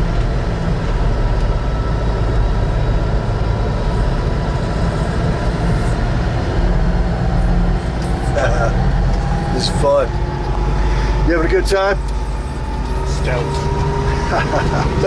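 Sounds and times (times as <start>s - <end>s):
engine low drone: 0.0s - 15.0s.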